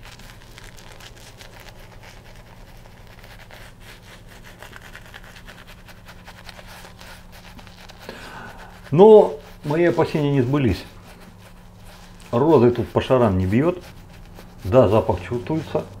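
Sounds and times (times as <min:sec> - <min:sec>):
shaving brush scrubbing skin: 0:00.0 - 0:16.0
steady low hum: 0:00.0 - 0:16.0.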